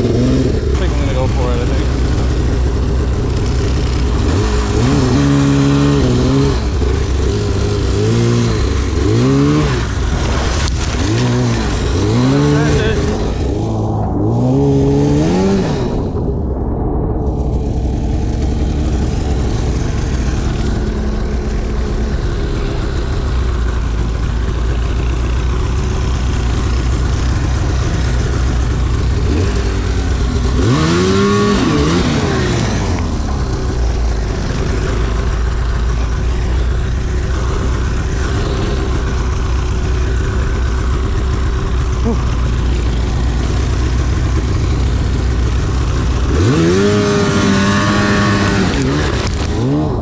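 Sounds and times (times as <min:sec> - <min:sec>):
snowmobile engine drone revving: 0:00.0 - 0:50.0.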